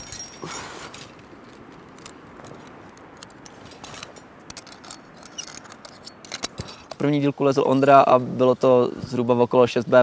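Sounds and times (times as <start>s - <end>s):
climbing gear clinking: 0.0s - 8.2s
faint background noise: 0.0s - 10.0s.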